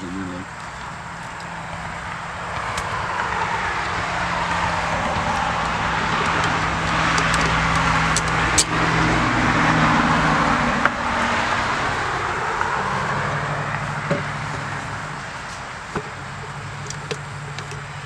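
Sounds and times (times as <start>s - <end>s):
car passing on road: 0.0s - 18.0s.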